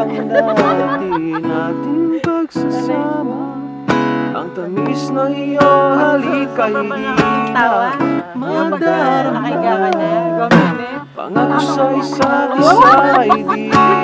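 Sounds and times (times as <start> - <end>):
person singing: 0.0 - 3.7, 4.3 - 14.0
acoustic guitar strumming: 0.0 - 14.0.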